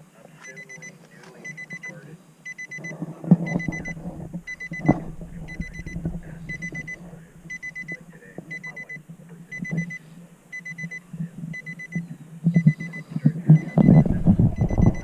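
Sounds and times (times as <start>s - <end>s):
electronic alarm beeping: 0.4s - 15.0s.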